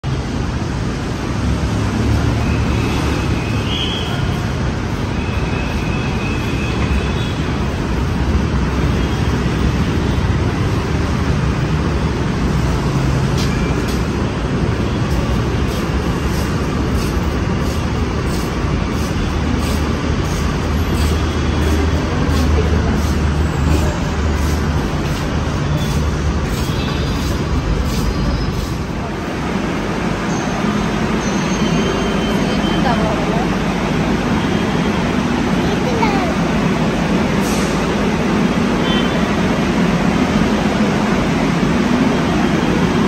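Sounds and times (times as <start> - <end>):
busy station din: 0.0 - 43.0
road traffic rumble: 0.0 - 43.0.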